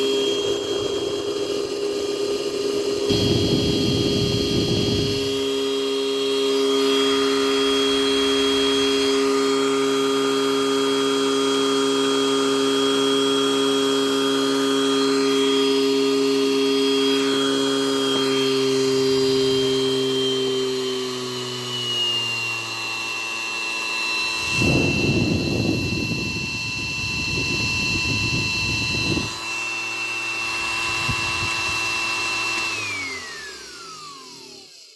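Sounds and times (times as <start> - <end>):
electric blower whining: 0.0 - 34.9.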